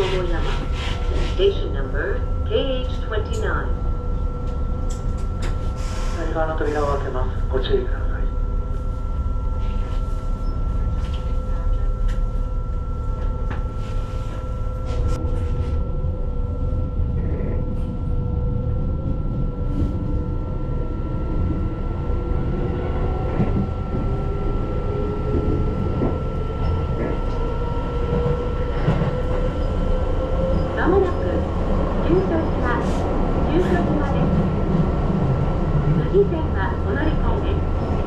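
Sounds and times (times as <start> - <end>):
electric train hum: 0.0 - 38.0.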